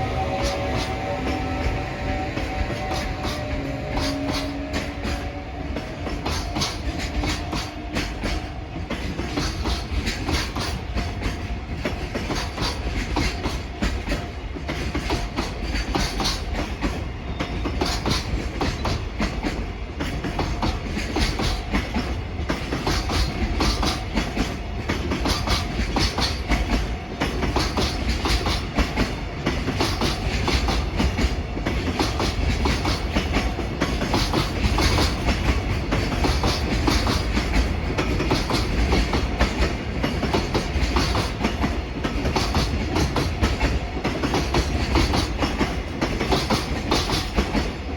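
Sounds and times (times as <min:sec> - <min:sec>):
train low rumble: 0:00.0 - 0:47.9
train wheels clicking over rail joints: 0:00.0 - 0:47.9.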